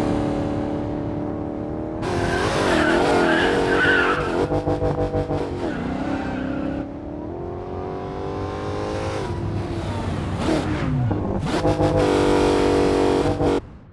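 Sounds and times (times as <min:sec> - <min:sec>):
car engine accelerating: 0:00.0 - 0:13.6.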